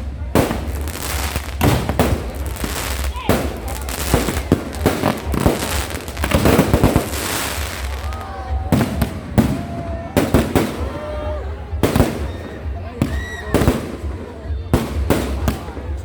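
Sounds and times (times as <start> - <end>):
fireworks banging and crackling: 0.0 - 16.0.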